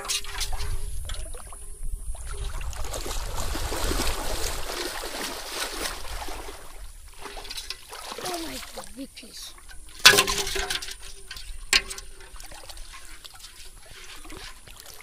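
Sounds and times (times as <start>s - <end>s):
wading through shallow water: 0.0s - 15.0s.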